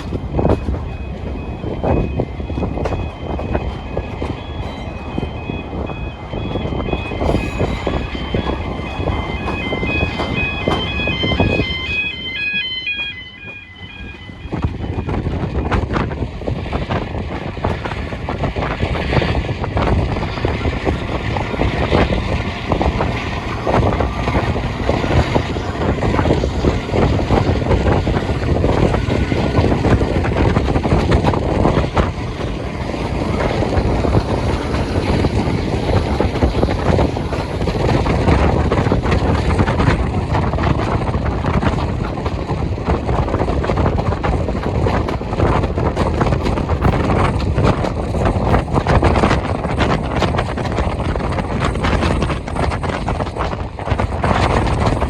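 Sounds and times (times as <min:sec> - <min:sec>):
diesel locomotive running: 0:00.0 - 0:55.0.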